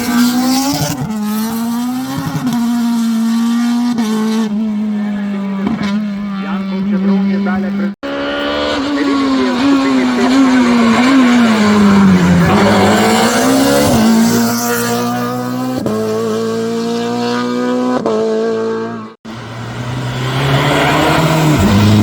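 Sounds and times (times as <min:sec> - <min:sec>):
race car engine at full throttle: 0:00.0 - 0:22.0.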